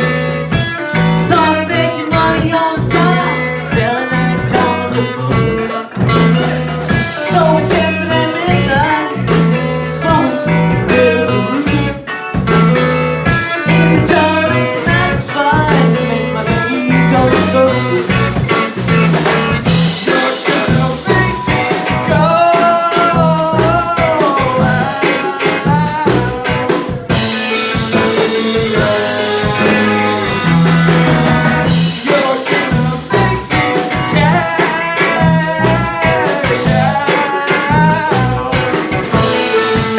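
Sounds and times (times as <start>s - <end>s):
electric guitar lines: 0.0s - 39.9s
rock band jamming: 0.0s - 39.9s.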